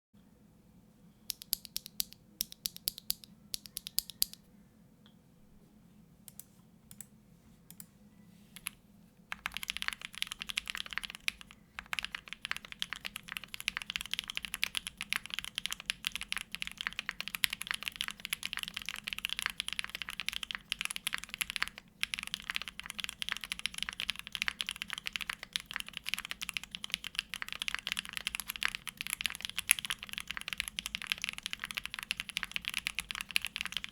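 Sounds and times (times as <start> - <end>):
mechanical keyboard typing: 1.3 - 4.4, 8.6 - 33.9.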